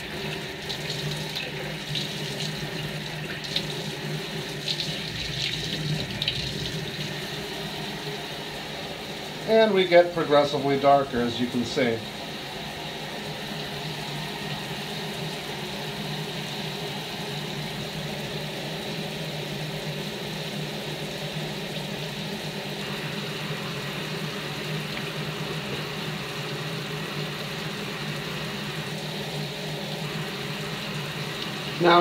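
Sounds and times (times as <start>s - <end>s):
mechanical hum with hiss: 0.0s - 32.0s.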